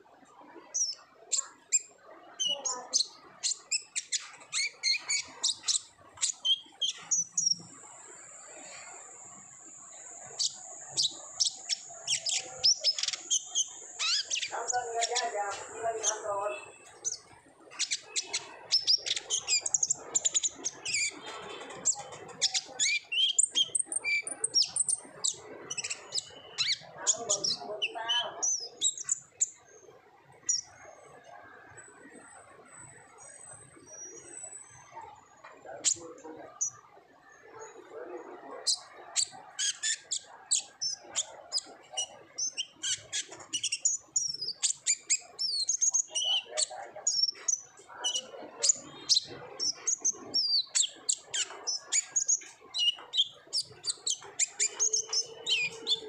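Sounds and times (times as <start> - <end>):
bird singing high chirps: 0.6 - 29.8, 37.5 - 56.0.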